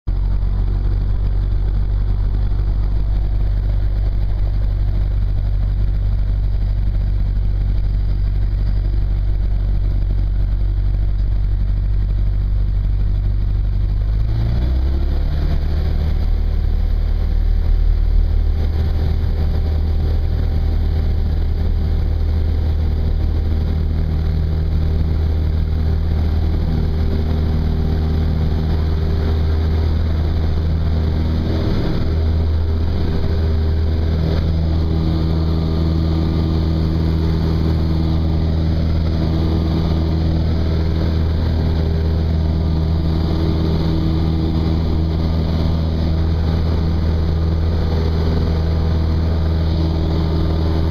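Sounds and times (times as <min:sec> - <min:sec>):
light airplane engine and propeller: 0:00.1 - 0:50.9.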